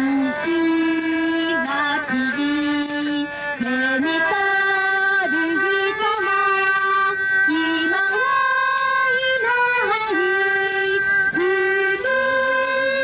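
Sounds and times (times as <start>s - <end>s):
person singing slow song: 0.0s - 13.0s.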